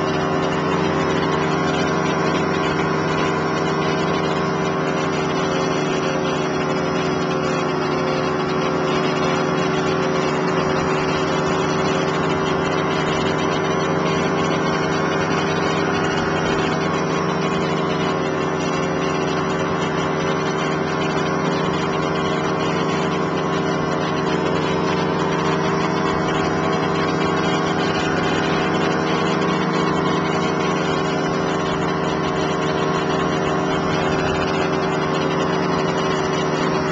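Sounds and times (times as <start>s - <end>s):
machine droning: 0.0s - 36.9s.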